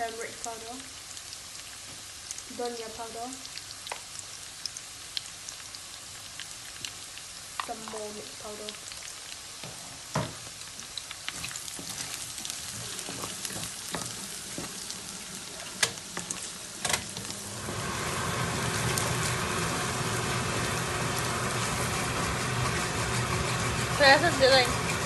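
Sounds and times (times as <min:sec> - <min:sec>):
onions sizzling in a pan: 0:00.0 - 0:25.0.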